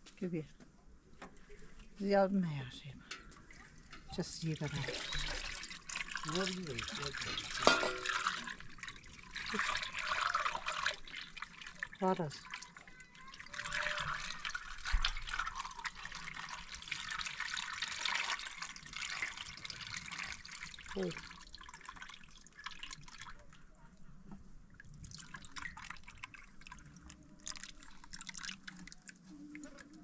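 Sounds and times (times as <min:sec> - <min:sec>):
liquid trickling and dripping: 0:03.0 - 0:30.0.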